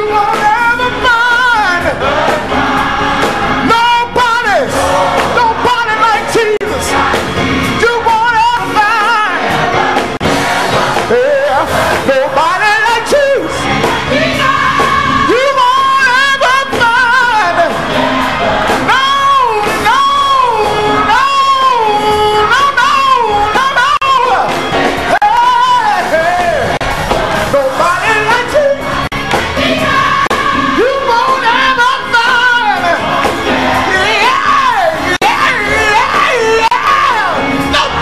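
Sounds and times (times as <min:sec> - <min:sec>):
congregation clapping: 0:00.0 - 0:38.0
gospel choir singing: 0:00.0 - 0:38.0.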